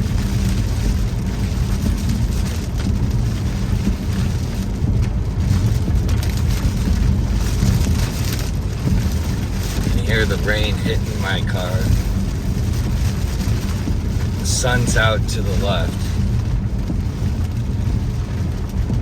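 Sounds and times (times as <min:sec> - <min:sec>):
rain hitting a truck: 0:00.0 - 0:19.0
road and engine rumble: 0:00.0 - 0:19.0.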